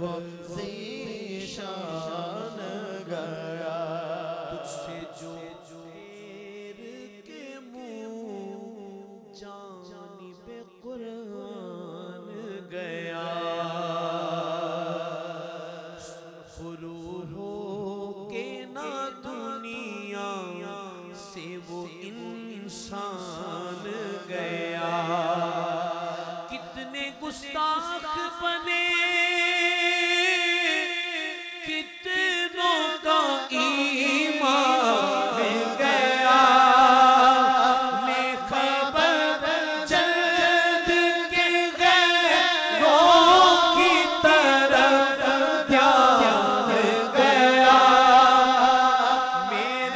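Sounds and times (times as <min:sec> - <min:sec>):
men singing through microphones: 0:00.0 - 0:08.7, 0:10.3 - 0:49.9.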